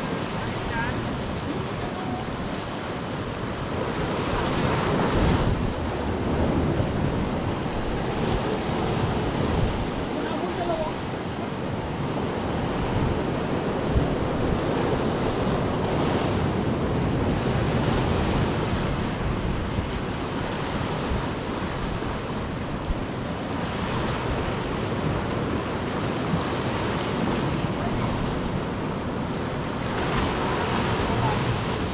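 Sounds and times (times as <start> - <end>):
waves breaking on rocks: 0.0 - 31.9
wind buffeting microphone: 0.0 - 31.9.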